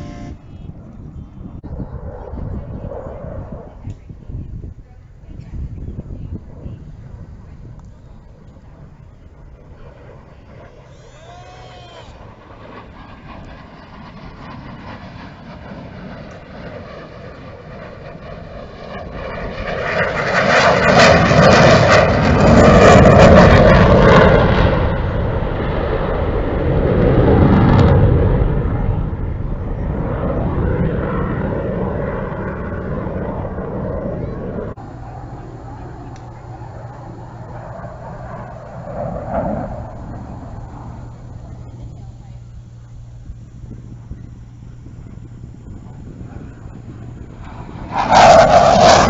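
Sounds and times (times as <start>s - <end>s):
jet aircraft roar: 0.0s - 49.0s.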